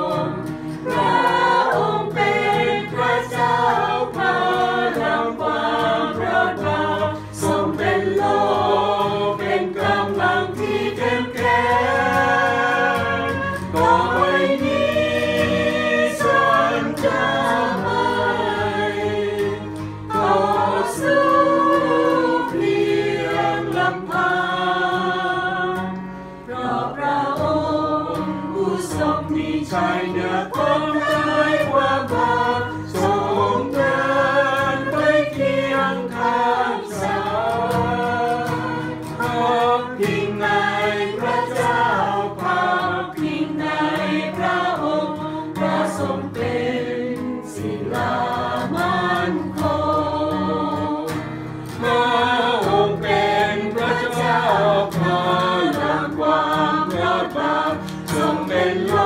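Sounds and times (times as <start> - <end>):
group singing worship song: 0.0 - 59.0
strummed acoustic guitar: 0.0 - 59.0.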